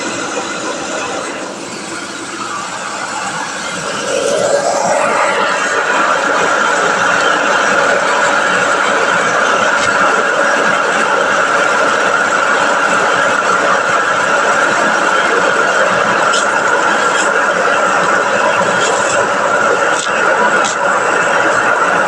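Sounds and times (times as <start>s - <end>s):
milling machine whine: 0.0s - 22.0s.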